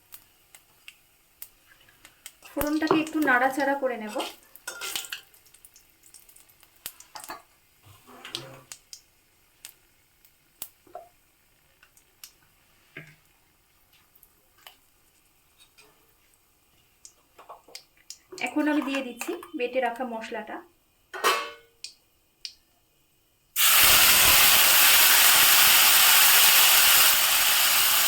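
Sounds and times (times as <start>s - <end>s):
spices sizzling in oil: 0.0s - 20.3s, 23.6s - 28.0s.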